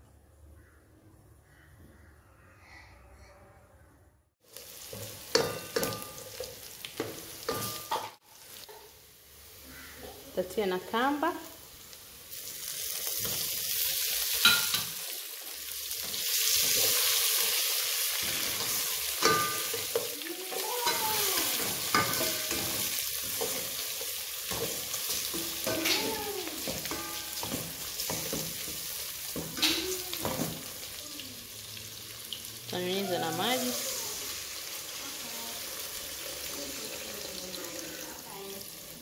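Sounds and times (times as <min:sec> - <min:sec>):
prawns sizzling in hot oil: 0:04.4 - 0:39.0.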